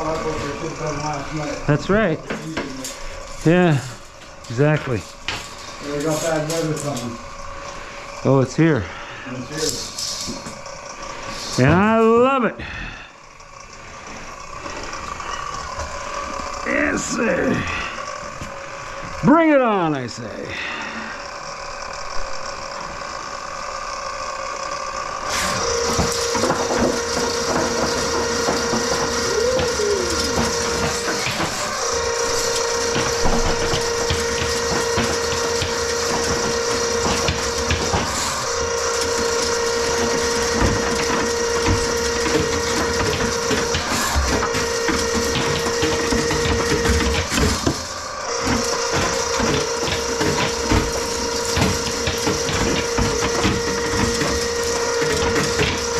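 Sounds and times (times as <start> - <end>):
drain cleaning machine motor hum: 0.0 - 55.9.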